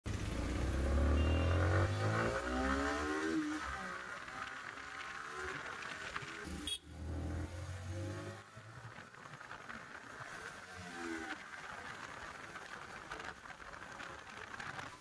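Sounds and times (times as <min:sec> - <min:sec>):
motorcycle engine accelerating: 0:00.1 - 0:14.0.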